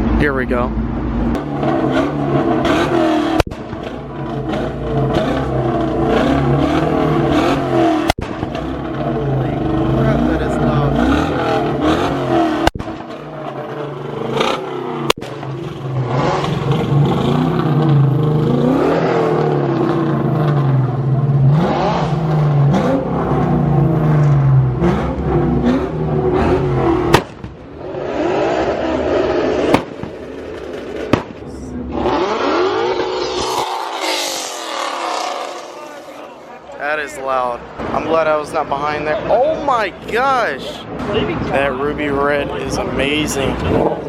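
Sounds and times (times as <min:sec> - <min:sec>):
car engines revving and accelerating: 0:00.0 - 0:44.0.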